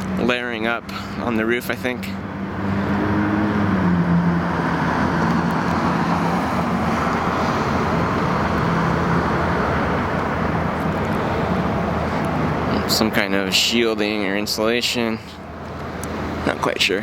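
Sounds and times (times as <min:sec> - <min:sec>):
low engine hum: 0:00.0 - 0:17.0
road rush of traffic: 0:00.0 - 0:17.0.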